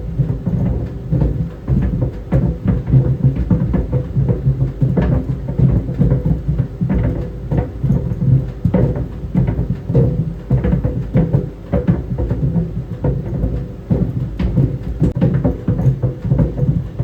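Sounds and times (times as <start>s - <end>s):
balls thudding in dryer drum: 0.0s - 17.0s.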